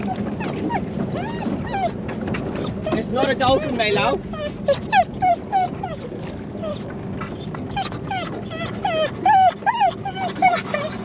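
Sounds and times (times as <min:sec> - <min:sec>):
dog whining and yipping: 0:00.0 - 0:11.0.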